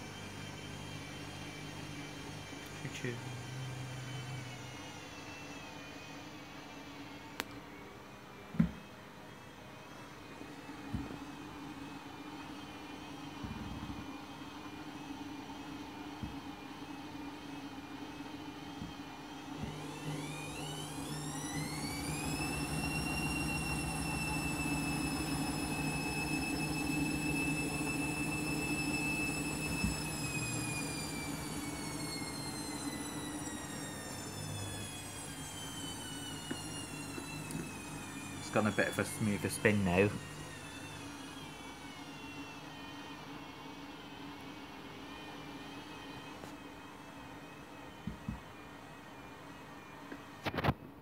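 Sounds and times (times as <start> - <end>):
washing machine spinning: 0.0 - 50.2.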